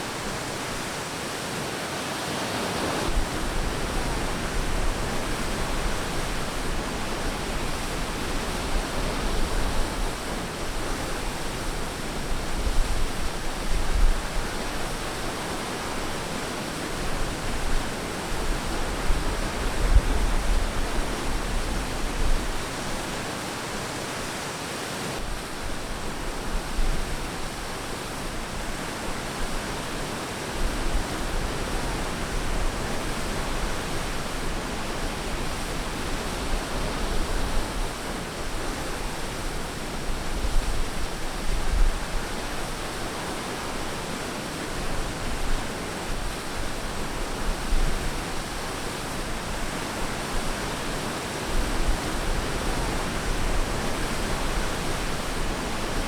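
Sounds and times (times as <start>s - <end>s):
ocean waves washing on beach: 0.0s - 56.0s.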